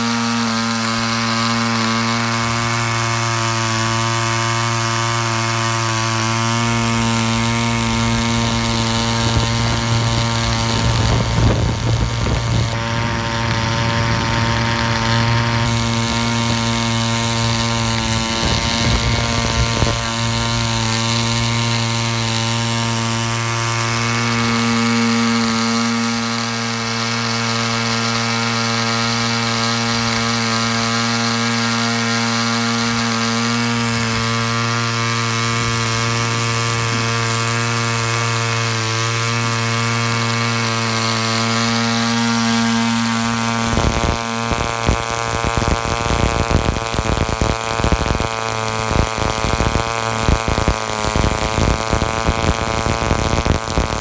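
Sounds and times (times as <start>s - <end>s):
model engine running: 0.0s - 54.0s.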